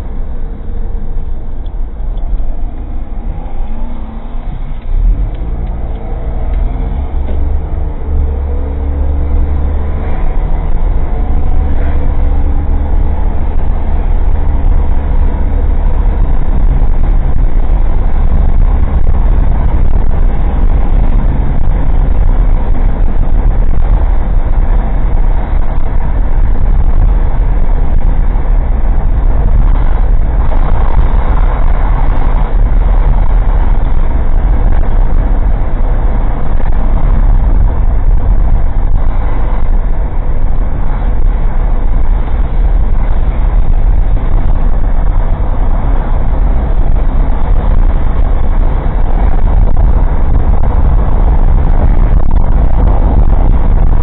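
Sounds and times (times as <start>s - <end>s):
car engine drone: 0.0s - 54.0s
road noise: 0.0s - 54.0s.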